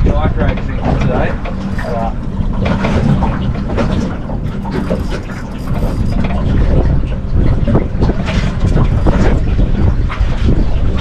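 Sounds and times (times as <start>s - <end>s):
water splashing: 0.0s - 11.0s
wind buffeting microphone: 0.0s - 11.0s.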